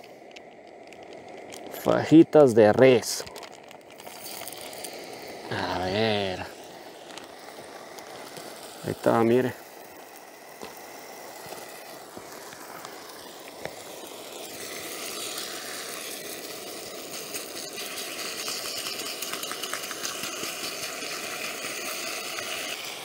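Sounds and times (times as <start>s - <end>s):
gas burner hissing: 0.0s - 23.0s
meat sizzling in a frying pan: 0.0s - 23.0s.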